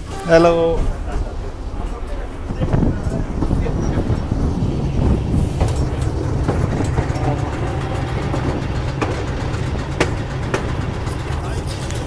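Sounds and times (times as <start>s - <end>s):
train low rumble: 0.0s - 12.0s
wheels clicking on rails: 0.0s - 12.0s.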